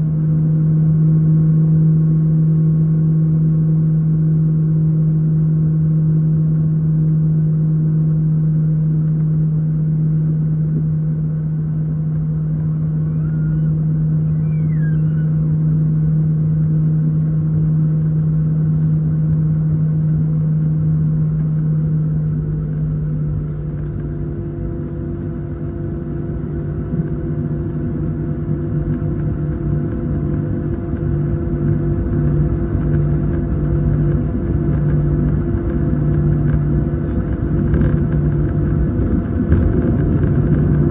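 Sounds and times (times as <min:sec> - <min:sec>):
jet engine drone: 0:00.0 - 0:40.9
low cabin rumble: 0:00.0 - 0:40.9.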